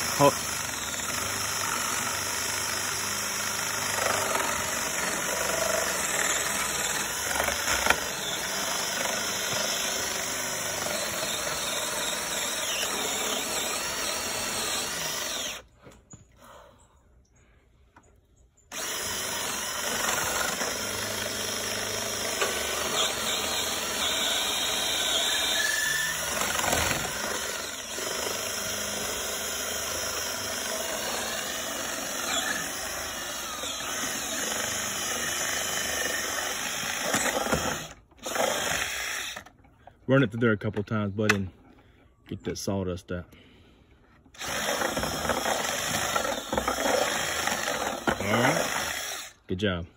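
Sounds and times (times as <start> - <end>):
cordless drill boring wood: 0.0 - 15.7, 18.7 - 39.5, 44.3 - 49.4.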